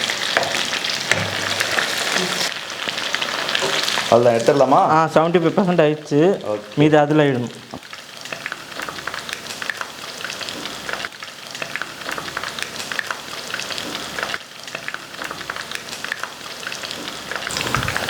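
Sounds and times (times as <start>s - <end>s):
chicken deep-frying in hot oil: 0.0s - 18.0s.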